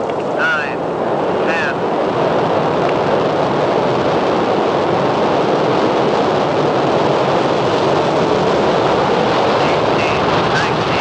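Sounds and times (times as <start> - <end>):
rocket engine rumble: 0.0 - 11.0.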